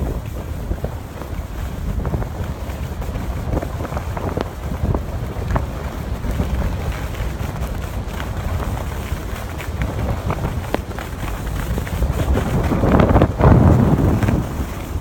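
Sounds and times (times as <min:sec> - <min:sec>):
skis scraping on snow: 0:00.0 - 0:15.0
wind rushing over microphone: 0:00.0 - 0:15.0.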